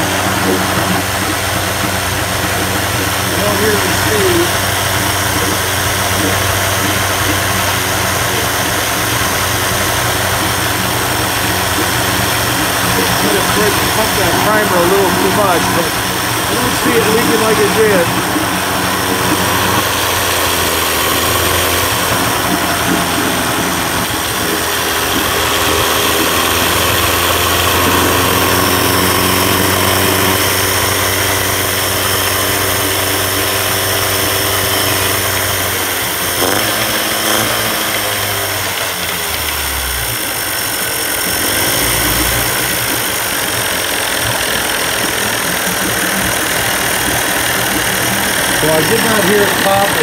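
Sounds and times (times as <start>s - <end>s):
outboard motor running: 0.0s - 50.0s.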